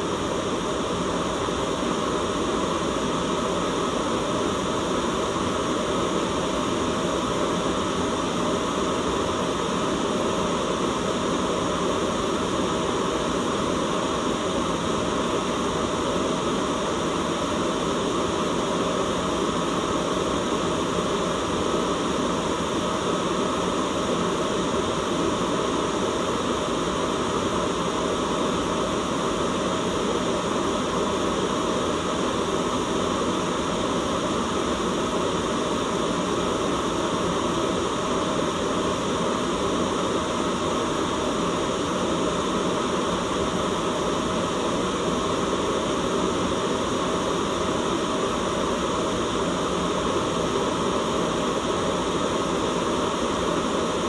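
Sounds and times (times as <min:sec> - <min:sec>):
white noise: 0:00.0 - 0:54.0.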